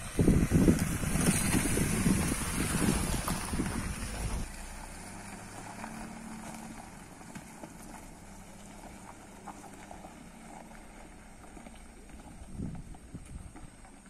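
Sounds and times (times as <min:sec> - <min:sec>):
car engine running low: 0:00.0 - 0:14.0
tyres ticking on dirt: 0:00.0 - 0:14.0.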